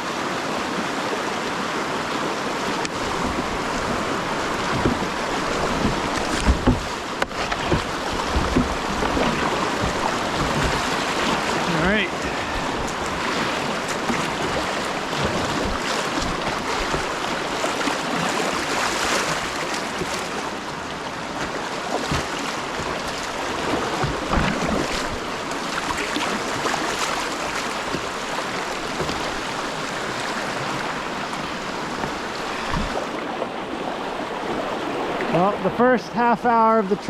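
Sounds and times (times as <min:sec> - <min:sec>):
whitewater rushing: 0:00.0 - 0:37.0
paddle splashes and knocks: 0:02.2 - 0:35.4.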